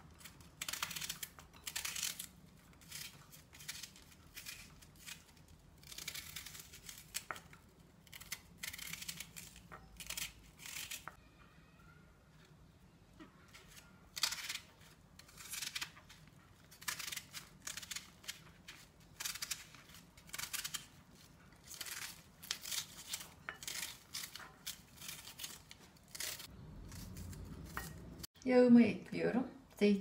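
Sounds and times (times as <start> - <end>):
knife dicing onion: 0.2 - 11.2, 13.5 - 28.2.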